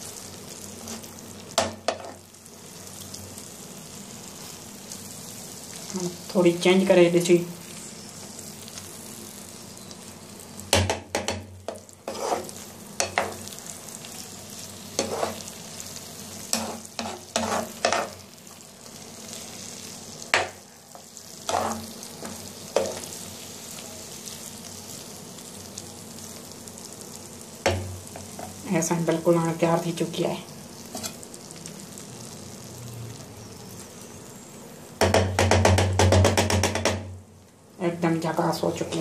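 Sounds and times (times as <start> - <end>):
potatoes sizzling in oil: 0.0 - 35.0, 37.6 - 39.0.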